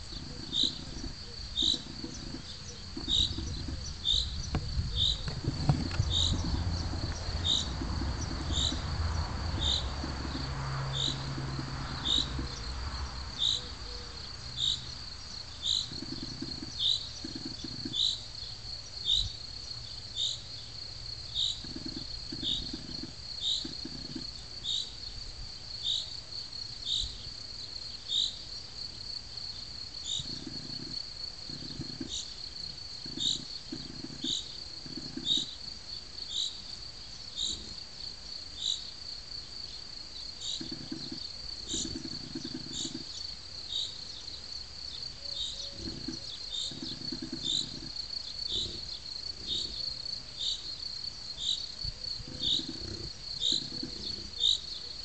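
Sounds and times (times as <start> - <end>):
crickets trilling: 0.0 - 55.0
sharp insect chirps: 0.0 - 55.0.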